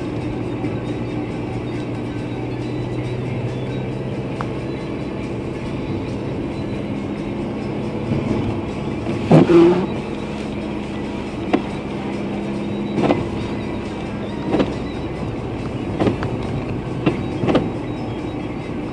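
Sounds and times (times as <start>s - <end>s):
car engine and road hum: 0.0s - 18.9s.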